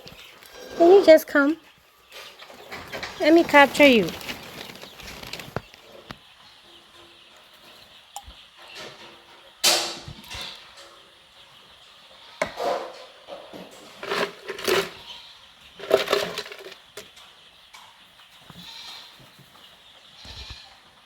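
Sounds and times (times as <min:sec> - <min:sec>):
faint chick peeping: 0:00.0 - 0:14.0, 0:14.7 - 0:21.0
chicks scuffling and squawking: 0:00.0 - 0:21.0.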